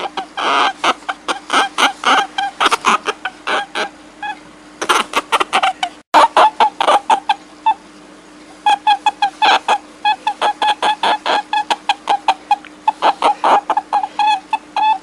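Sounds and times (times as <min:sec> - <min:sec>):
short pitched animal calls: 0:00.0 - 0:07.9, 0:08.6 - 0:15.0
faint steady hum: 0:00.0 - 0:15.0.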